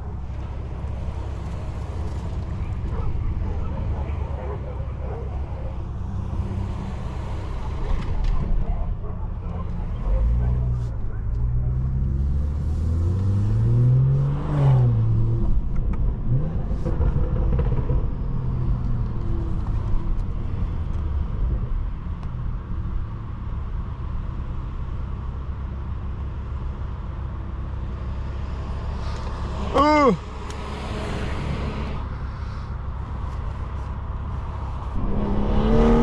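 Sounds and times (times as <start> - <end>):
car engine accelerating: 0.0 - 22.2, 27.6 - 36.0.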